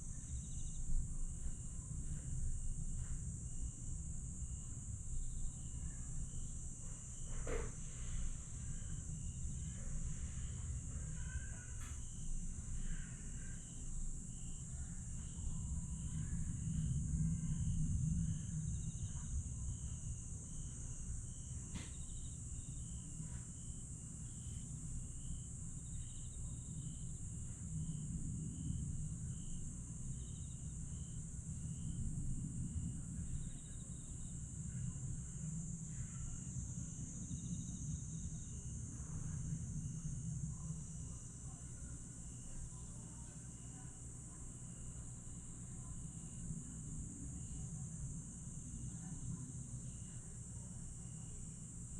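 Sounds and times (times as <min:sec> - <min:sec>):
insects shrilling and chirping: 0:00.0 - 0:51.9.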